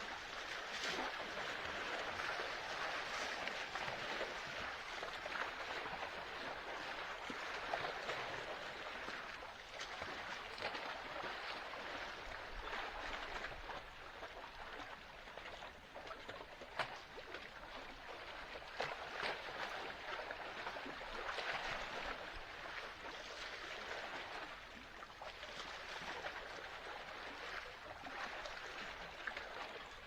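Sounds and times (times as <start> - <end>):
sea water sloshing and splashing: 0.0 - 30.0.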